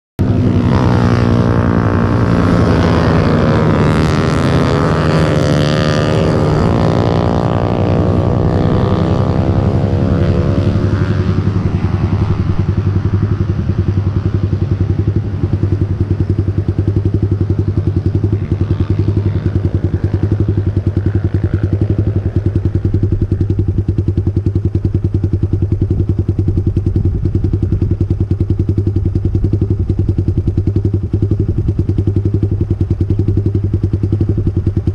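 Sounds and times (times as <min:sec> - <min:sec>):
close motorcycle engine running: 0:00.2 - 0:34.9
motorcycles passing on track: 0:00.2 - 0:34.9.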